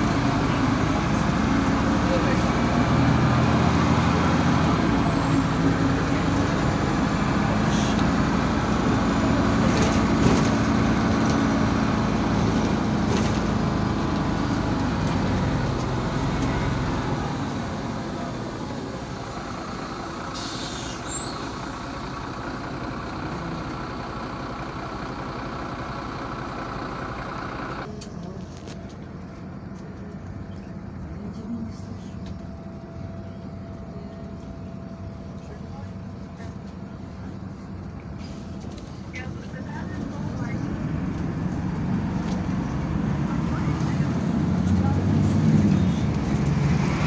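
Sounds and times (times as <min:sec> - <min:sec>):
bus diesel engine: 0:00.0 - 0:47.0
road noise: 0:00.0 - 0:47.0.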